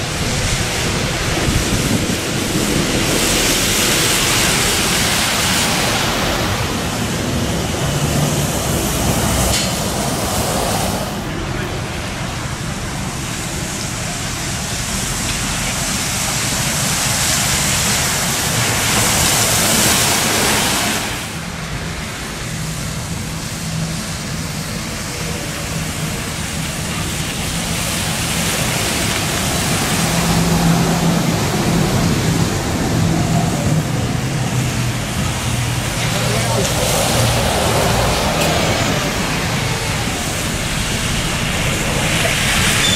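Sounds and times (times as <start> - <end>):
bus engine low hum: 0.0 - 42.9
tyres hissing on wet road: 0.0 - 42.9.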